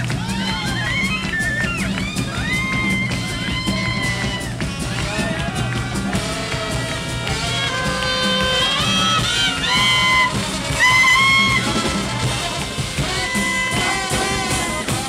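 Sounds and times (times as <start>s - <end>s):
clarinets playing swing jazz: 0.0s - 15.0s
rhythm section steady beat: 0.0s - 15.0s.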